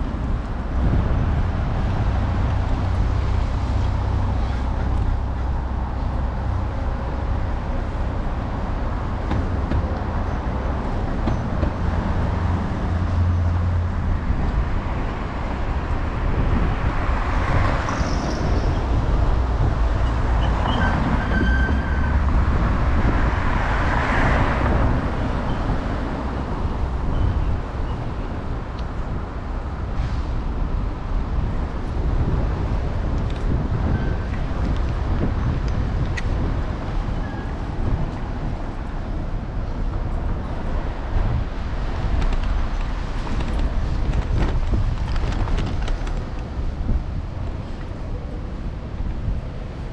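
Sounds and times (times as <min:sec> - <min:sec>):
street traffic: 0:00.0 - 0:49.9
wind rumble and ride vibration: 0:00.0 - 0:49.9.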